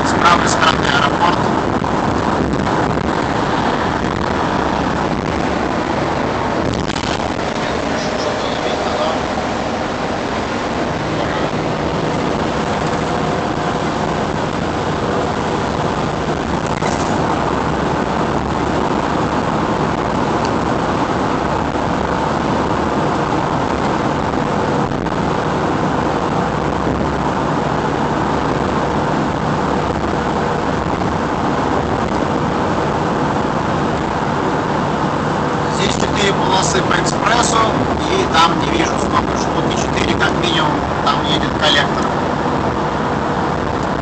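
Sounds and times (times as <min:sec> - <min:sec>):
low engine hum: 0:00.0 - 0:44.0
tyre and wind rush: 0:00.0 - 0:44.0.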